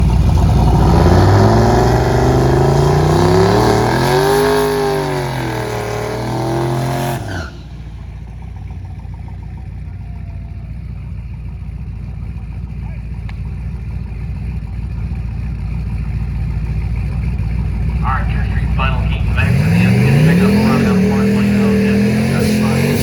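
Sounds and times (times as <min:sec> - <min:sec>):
drag racing car engine: 0:00.0 - 0:23.0.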